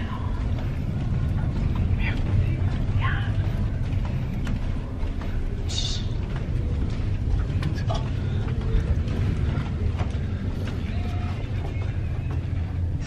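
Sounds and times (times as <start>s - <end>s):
ship low rumble: 0.0s - 13.0s.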